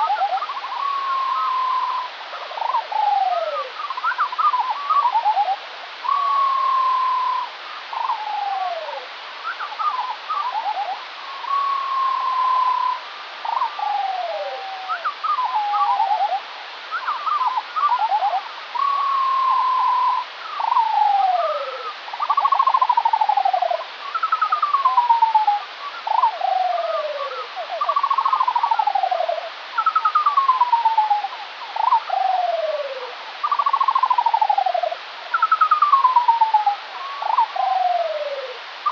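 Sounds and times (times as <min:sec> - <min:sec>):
constant hiss: 0:00.0 - 0:38.9
slowed birdsong whistles: 0:00.0 - 0:38.9.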